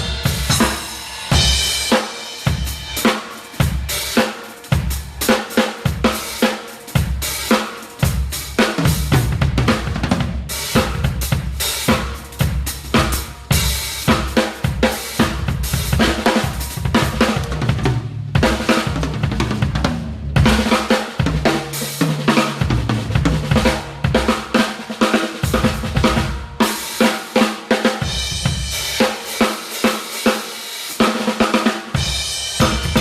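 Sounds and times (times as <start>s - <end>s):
drum kit fast fills: 0.0s - 33.0s.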